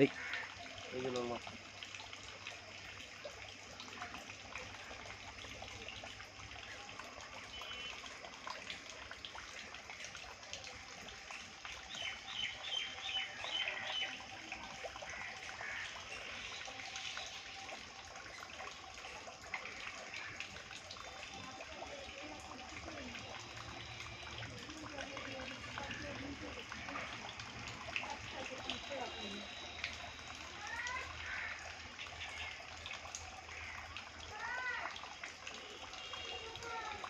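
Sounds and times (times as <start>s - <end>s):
water trickling into a pond: 0.0s - 37.0s.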